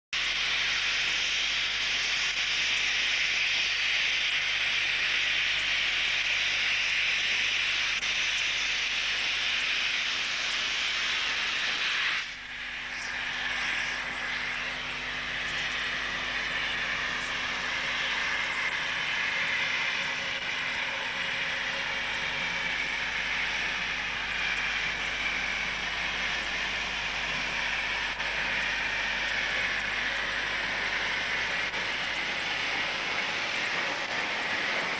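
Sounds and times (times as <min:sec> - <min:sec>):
faint steady whine: 0:00.2 - 0:34.9
steam hissing from locomotive: 0:00.2 - 0:34.9.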